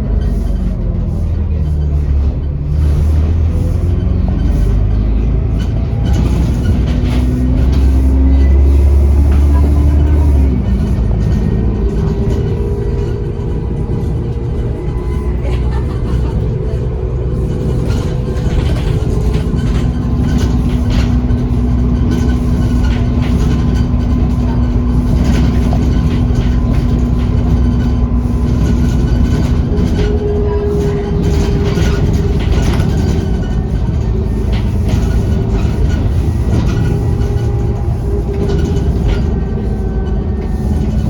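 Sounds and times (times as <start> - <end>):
bus engine rumble and whine: 0.0 - 41.0
rattles from bus body: 0.0 - 41.0.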